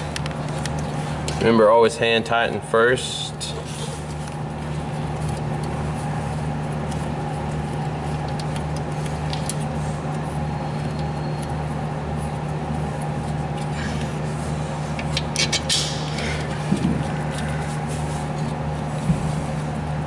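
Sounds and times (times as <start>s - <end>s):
machine humming with throb: 0.0s - 20.0s.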